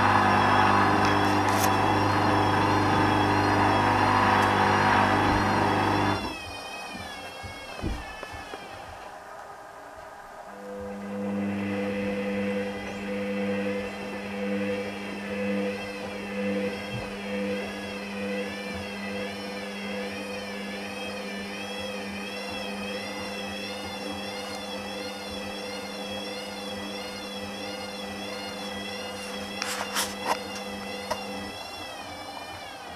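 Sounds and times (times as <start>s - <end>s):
washing machine motor whine: 0.0s - 32.9s.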